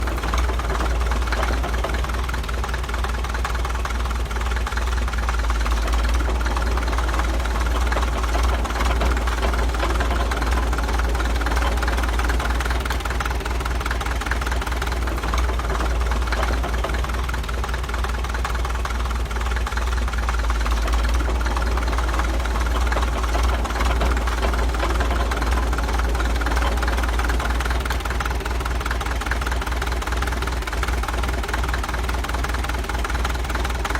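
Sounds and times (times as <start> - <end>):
bulldozer diesel engine rumbling: 0.0 - 33.9.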